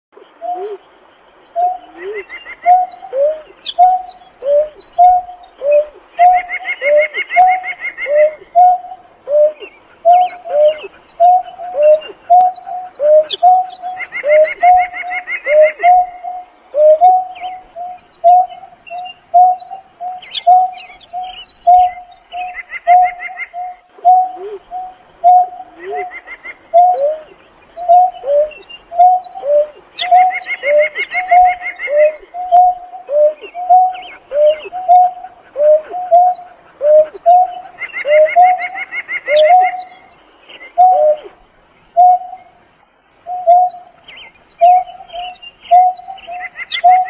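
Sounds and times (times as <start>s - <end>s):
bird low hoots: 0.2s - 0.9s, 1.5s - 42.6s, 43.2s - 47.0s.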